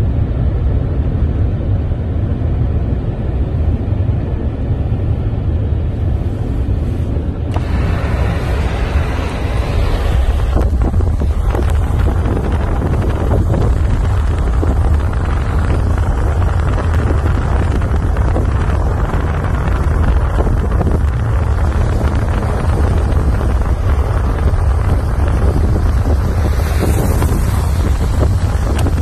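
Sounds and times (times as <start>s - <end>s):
car rumble: 0.0s - 29.0s
wind buffeting microphone: 0.0s - 29.0s.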